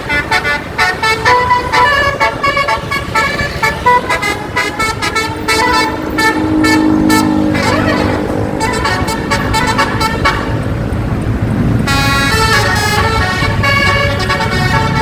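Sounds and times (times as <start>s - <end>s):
multi-tone air horn melody: 0.0s - 11.0s, 11.8s - 15.0s.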